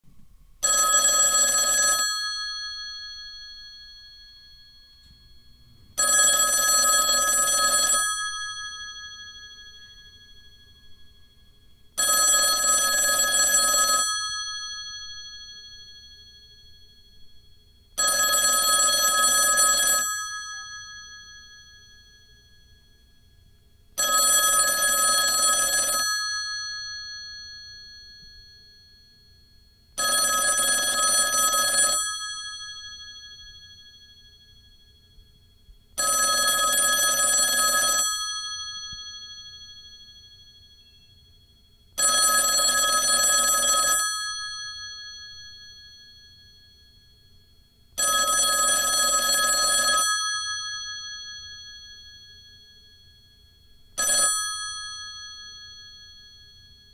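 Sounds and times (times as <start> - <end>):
telephone ringing: 0.6 - 11.2, 12.0 - 17.1, 18.0 - 23.1, 24.0 - 34.7, 36.0 - 41.1, 42.0 - 46.8, 48.0 - 52.6, 53.9 - 56.9.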